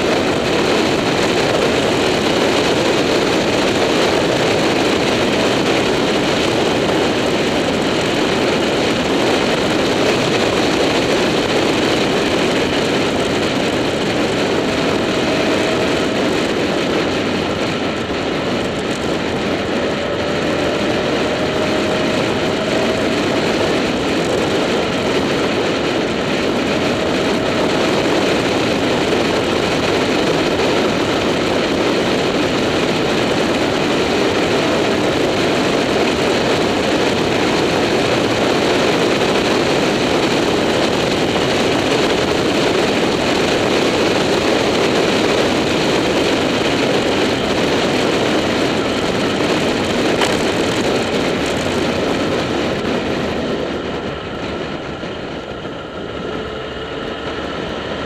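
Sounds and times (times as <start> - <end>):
motorcycle engine drone: 0.0 - 58.0
wind rush over microphone: 0.0 - 58.0.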